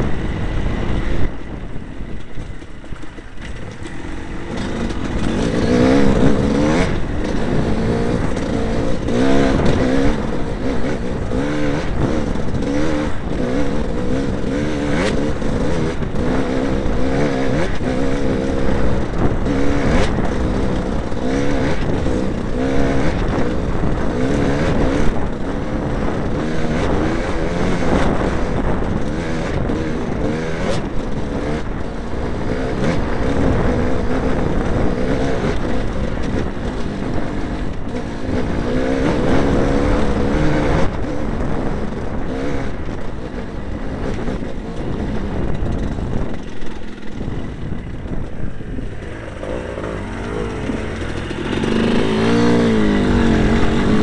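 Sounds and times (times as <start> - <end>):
motorcycle engine revving: 0.0 - 54.0
wind: 0.0 - 54.0.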